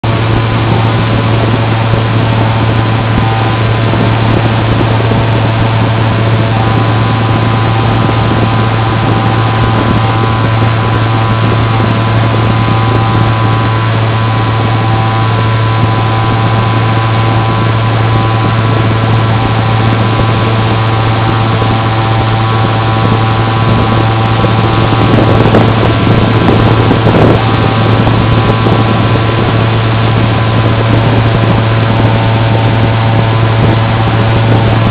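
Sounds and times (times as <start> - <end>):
model aircraft motor droning: 0.0 - 34.9.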